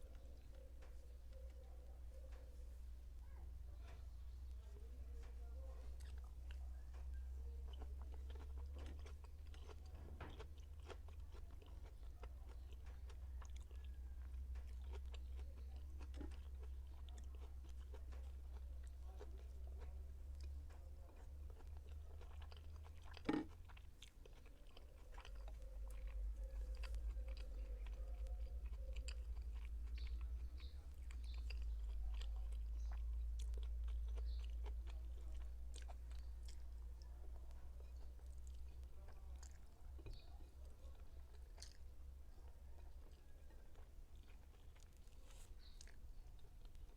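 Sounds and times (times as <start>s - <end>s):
steady low hum: 0.0s - 46.9s
wet chewing: 0.0s - 46.9s.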